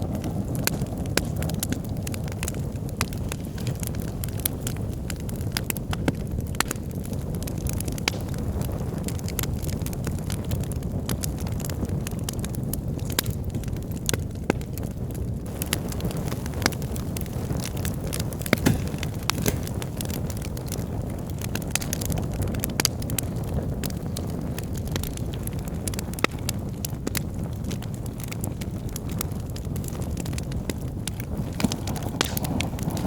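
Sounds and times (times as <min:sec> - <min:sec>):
logs crackling and popping: 0:00.0 - 0:33.0
low rush of flame: 0:00.0 - 0:33.0.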